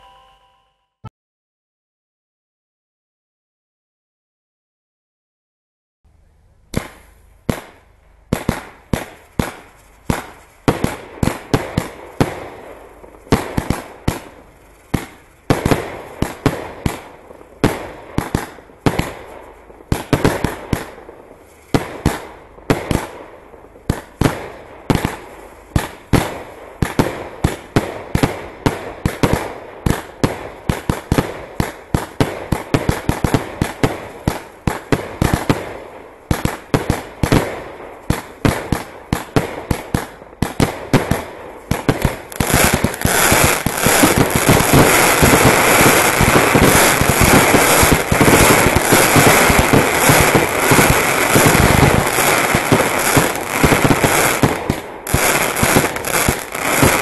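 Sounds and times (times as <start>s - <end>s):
fireworks bursting with sharp bangs: 6.7s - 57.0s.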